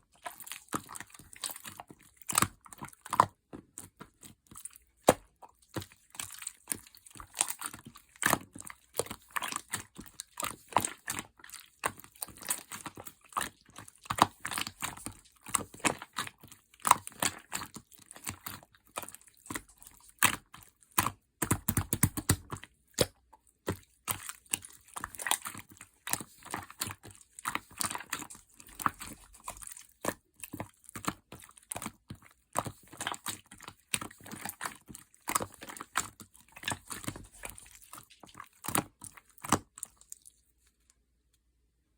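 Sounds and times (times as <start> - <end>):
slime squelch: 0.0 - 41.8.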